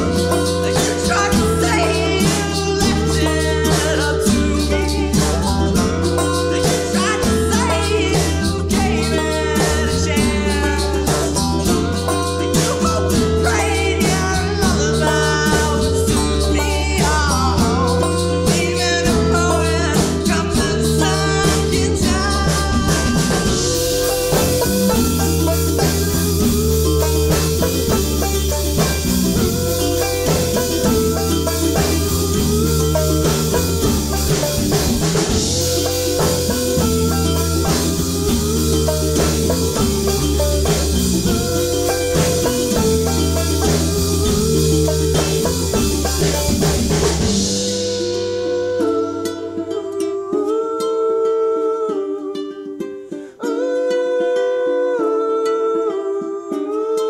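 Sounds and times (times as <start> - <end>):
drum kit: 0.0 - 49.6
acoustic bass guitar: 0.0 - 56.0
banjo picking: 0.0 - 57.0.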